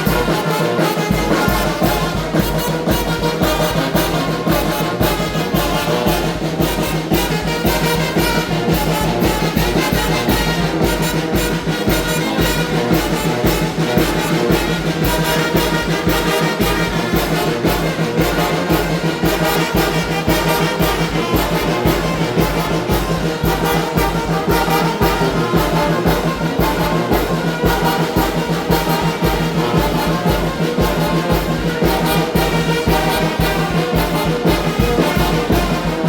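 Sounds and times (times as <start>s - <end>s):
brass band playing lively music: 0.0s - 36.0s.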